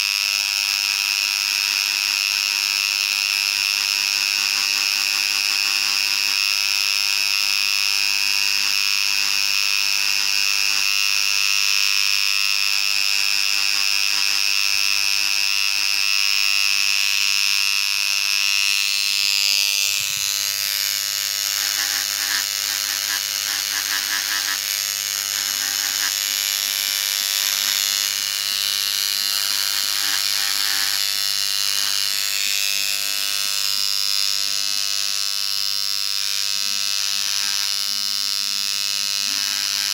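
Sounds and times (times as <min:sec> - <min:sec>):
engraving pen buzzing on stone: 0:00.0 - 0:39.9.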